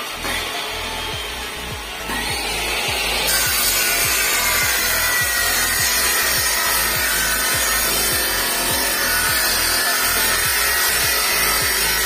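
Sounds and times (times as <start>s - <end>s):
chop saw cutting steel: 0.0s - 12.0s.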